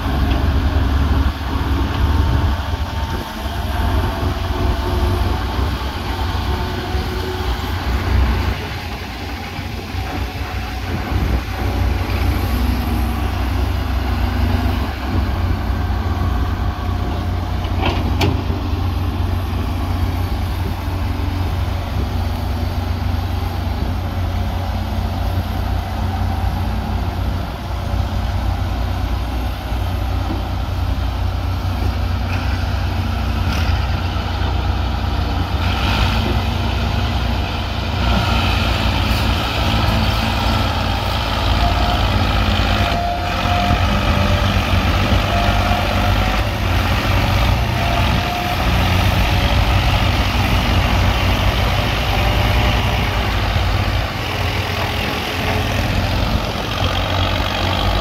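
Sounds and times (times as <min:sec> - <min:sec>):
diesel engines rumbling: 0:00.0 - 0:58.0.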